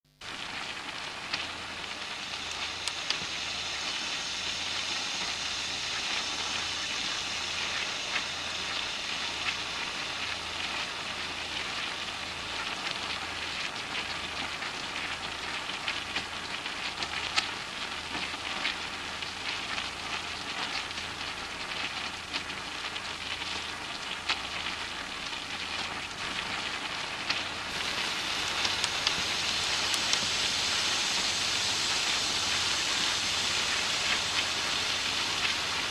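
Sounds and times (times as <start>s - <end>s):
food sizzling in hot oil: 0.1s - 35.9s
oil popping and crackling: 0.1s - 35.9s.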